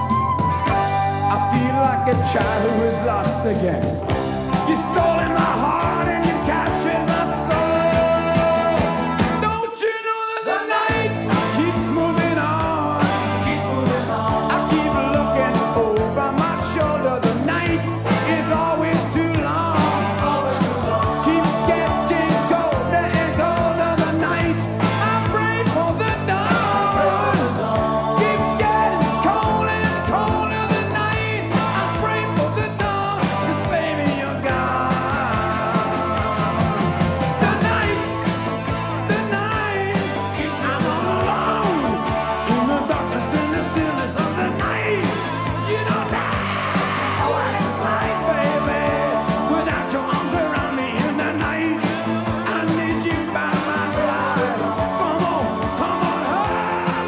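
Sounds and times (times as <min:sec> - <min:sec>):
sliding lead melody: 0:00.0 - 0:09.6, 0:10.9 - 0:57.0
rock band playing: 0:00.0 - 0:57.0.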